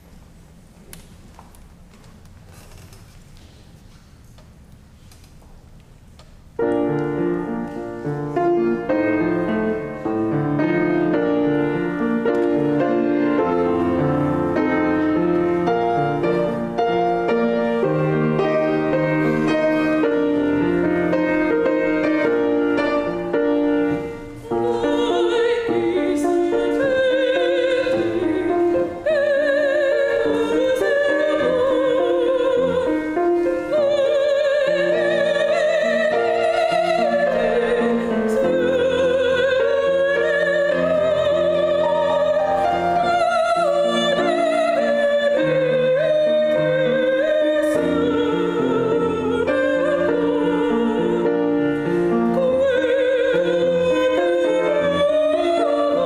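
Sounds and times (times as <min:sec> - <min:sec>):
slow classical piano piece: 0:00.0 - 0:56.0
person singing with vibrato: 0:07.4 - 0:56.0.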